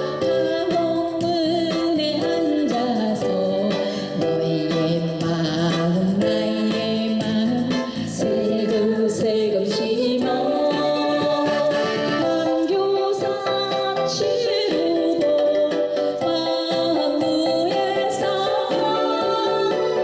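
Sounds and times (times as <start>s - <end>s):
backing track over pa system: 0.0s - 20.0s
woman singing: 0.0s - 20.0s.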